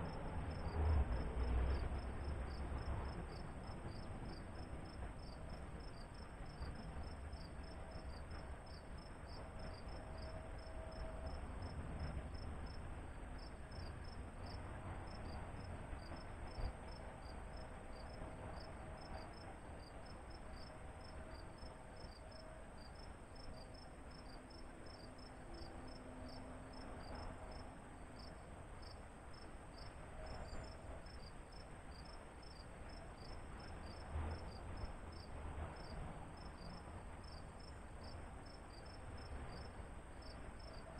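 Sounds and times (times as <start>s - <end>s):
cricket chirping: 0.0s - 12.8s, 13.4s - 40.9s.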